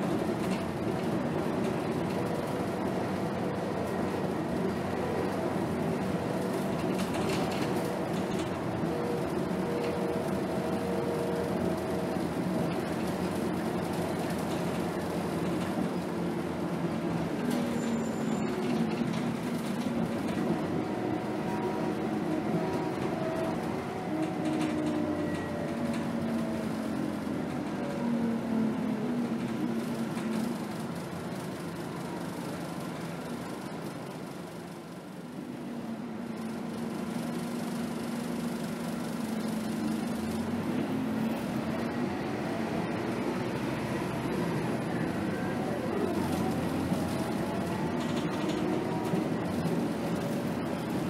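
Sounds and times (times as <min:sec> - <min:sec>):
bus engine drone: 0:00.0 - 0:51.0
road noise: 0:00.0 - 0:51.0.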